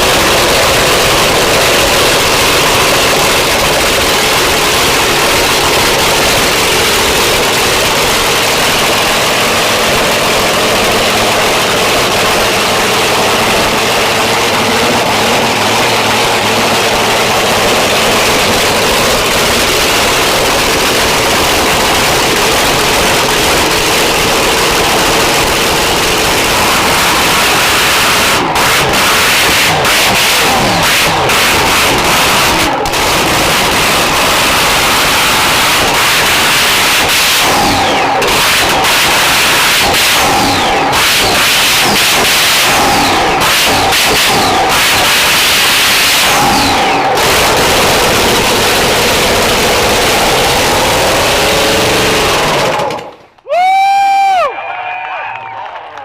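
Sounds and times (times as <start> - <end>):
race car engine idling loudly: 0.0 - 53.4.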